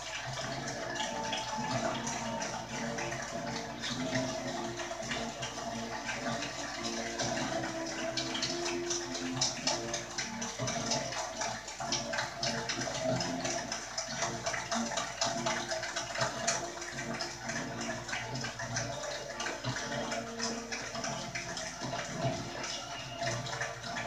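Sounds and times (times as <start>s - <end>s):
crowd cheering and applauding on tv: 0.0s - 24.0s.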